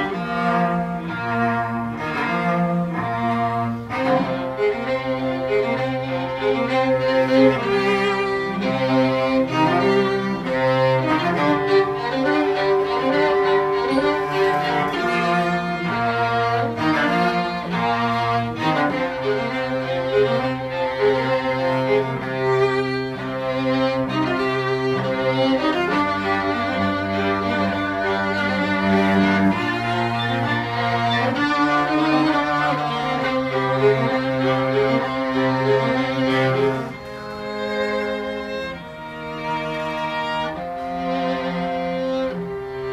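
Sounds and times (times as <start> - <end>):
bowed cello: 0.0 - 42.9
violin melody: 0.0 - 42.9.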